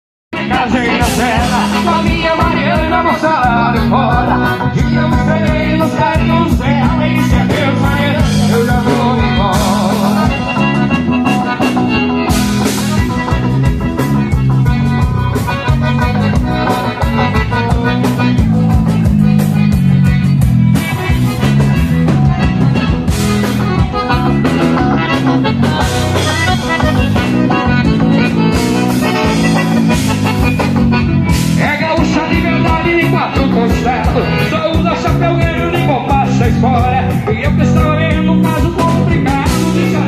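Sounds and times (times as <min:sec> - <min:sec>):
live band playing dance music: 0:00.3 - 0:40.0.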